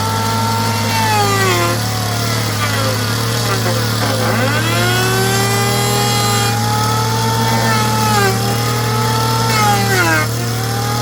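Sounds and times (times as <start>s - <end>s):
power drill whining into wood: 0.0s - 11.0s.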